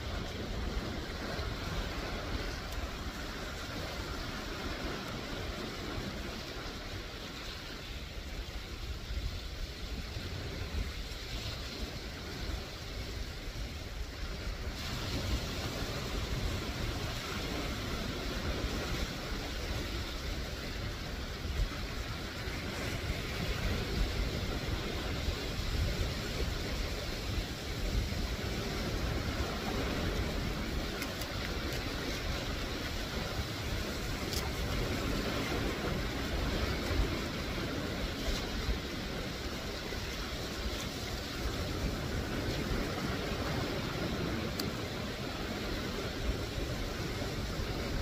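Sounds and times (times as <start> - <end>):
surf washing over rocks: 0.0 - 48.0
wind rumbling on microphone: 0.0 - 48.0.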